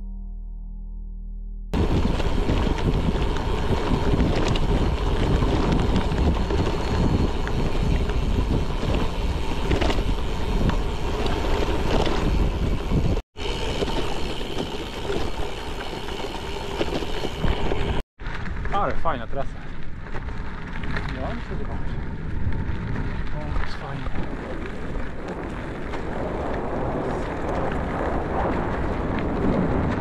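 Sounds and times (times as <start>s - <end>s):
tyres rolling on gravel: 1.8s - 30.0s
wind buffeting microphone: 1.8s - 30.0s.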